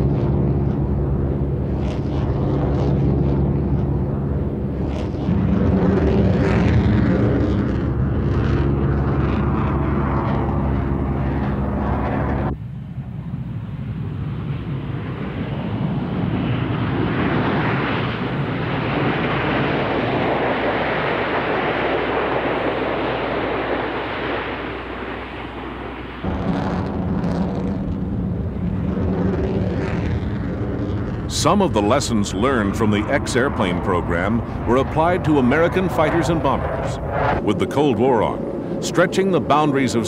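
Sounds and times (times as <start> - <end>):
aircraft engine droning: 0.0 - 40.0
engine roar: 0.0 - 40.0.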